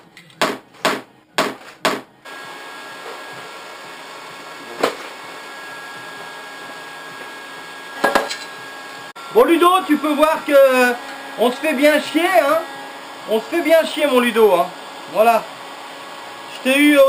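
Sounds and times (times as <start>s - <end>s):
electric blower whining: 2.2s - 17.0s.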